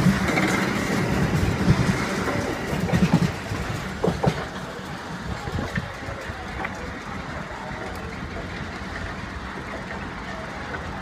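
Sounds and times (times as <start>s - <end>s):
freight wagons rolling past: 0.0s - 11.0s
wheels clicking on track: 0.0s - 11.0s.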